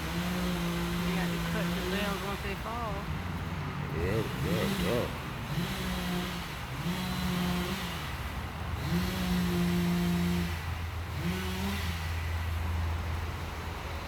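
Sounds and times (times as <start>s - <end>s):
chainsaw revving: 0.0s - 3.0s, 3.8s - 12.6s
low engine hum: 0.0s - 14.0s.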